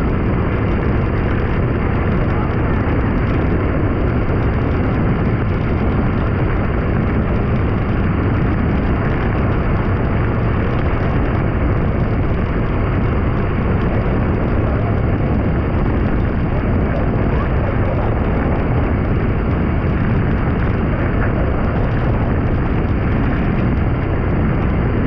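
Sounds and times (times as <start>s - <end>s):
motorbike road rumble: 0.0s - 25.0s.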